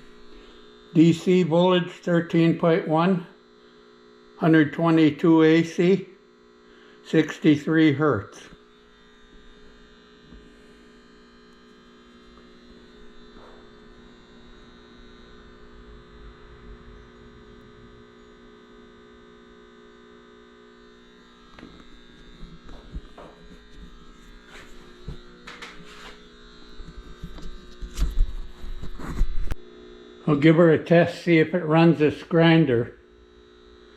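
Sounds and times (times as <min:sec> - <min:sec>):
power inverter humming: 0:00.0 - 0:33.9.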